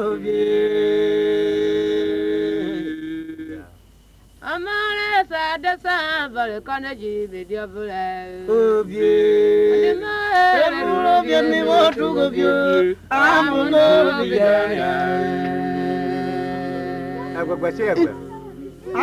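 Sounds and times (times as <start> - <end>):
voices singing unaccompanied: 0.0 - 3.8, 4.4 - 19.0.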